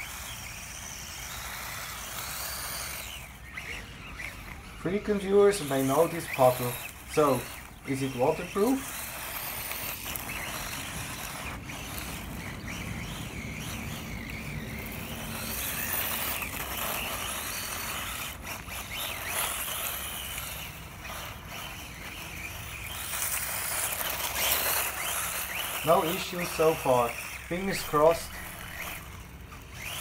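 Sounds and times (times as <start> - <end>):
tyres rolling on grit: 0.0 - 30.0.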